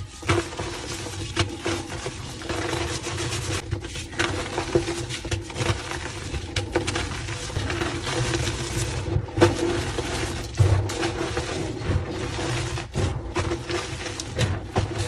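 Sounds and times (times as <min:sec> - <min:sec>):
chalk crumbling and crunching: 0:00.0 - 0:15.0.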